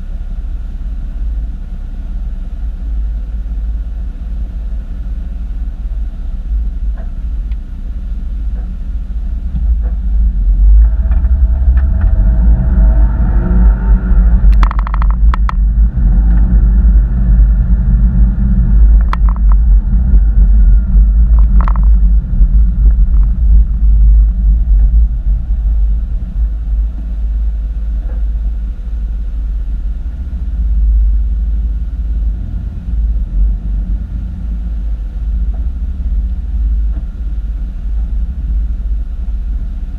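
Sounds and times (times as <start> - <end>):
car engine pulling hard: 0.0 - 39.9
heavy low rumble: 0.0 - 39.9.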